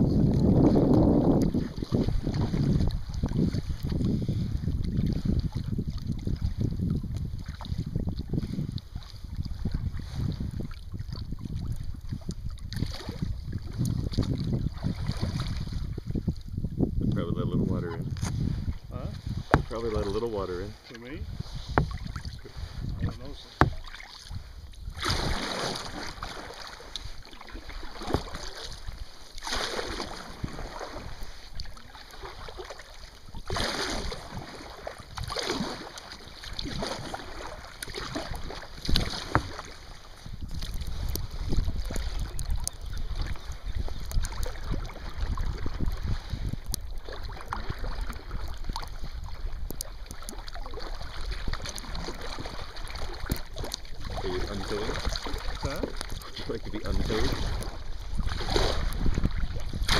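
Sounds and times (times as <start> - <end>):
kayak paddle splashing: 0.0 - 16.7, 17.8 - 59.9
water slapping hull: 0.0 - 59.9
wind buffeting microphone: 0.0 - 59.9.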